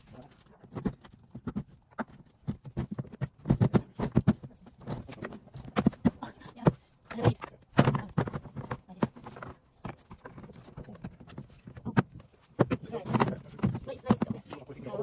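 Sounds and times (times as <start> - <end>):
plastic box panels knocking and snapping: 0.6 - 15.0.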